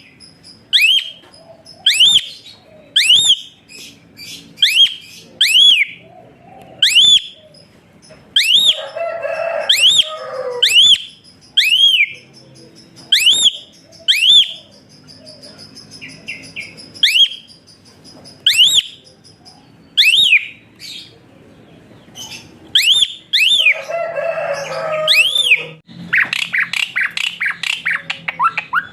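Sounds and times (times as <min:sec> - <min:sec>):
starling whistling calls: 0:00.0 - 0:06.1, 0:06.8 - 0:07.6, 0:08.4 - 0:21.1, 0:22.2 - 0:28.9
bird rasping chatter: 0:00.0 - 0:21.1, 0:22.2 - 0:28.9.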